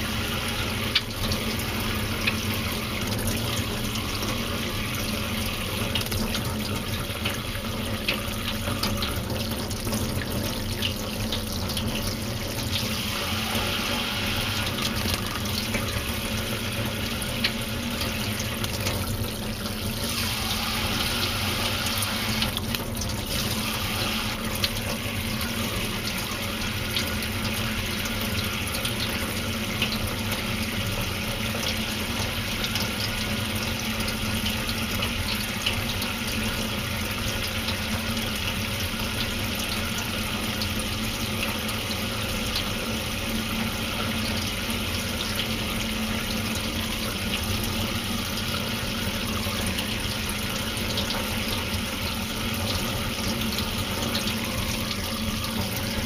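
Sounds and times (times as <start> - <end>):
tap water pouring into sink: 0.0 - 56.0.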